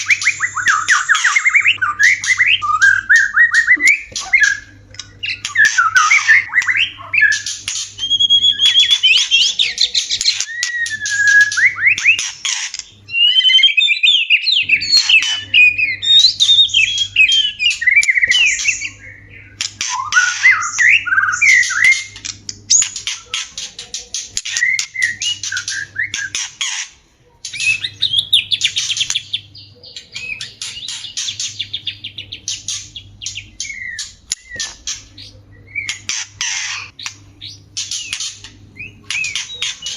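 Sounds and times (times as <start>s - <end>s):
birds singing whistled calls: 0.0s - 26.8s, 27.4s - 39.9s.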